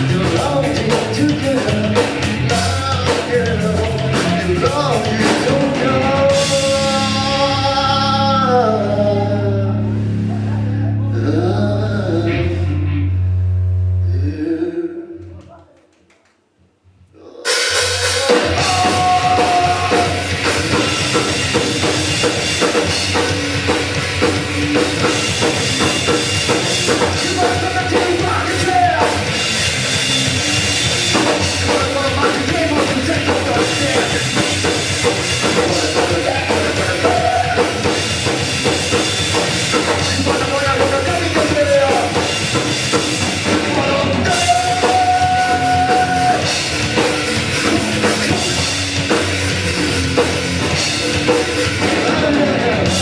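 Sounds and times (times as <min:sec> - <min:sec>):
drum kit: 0:00.0 - 0:10.8, 0:17.4 - 0:53.0
live rock band playing: 0:00.0 - 0:13.9, 0:17.5 - 0:53.0.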